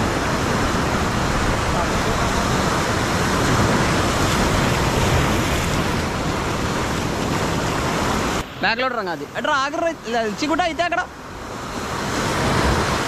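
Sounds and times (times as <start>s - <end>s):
sea surf breaking on shore: 0.0s - 13.0s.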